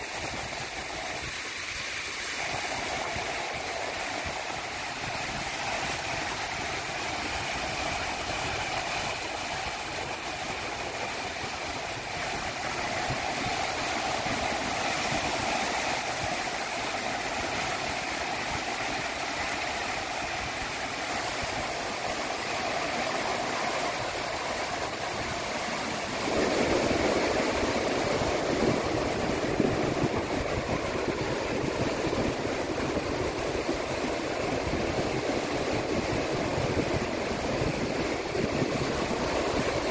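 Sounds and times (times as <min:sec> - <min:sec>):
sea waves washing on shore: 0:00.0 - 0:39.9
wind: 0:00.0 - 0:39.9.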